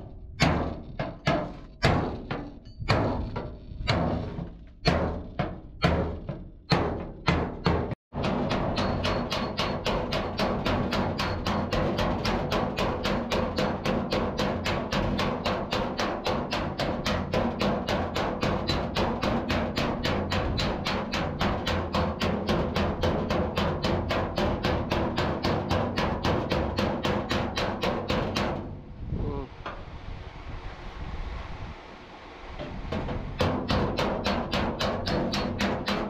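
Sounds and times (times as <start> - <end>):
hammer beating sheet metal: 0.0 - 28.7, 32.6 - 36.0.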